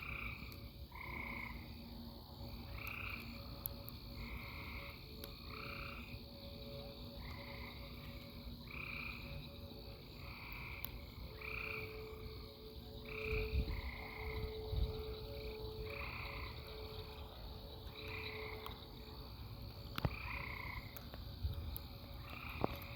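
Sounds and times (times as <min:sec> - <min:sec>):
frogs trilling: 0:00.0 - 0:22.9
distant siren: 0:00.3 - 0:22.9.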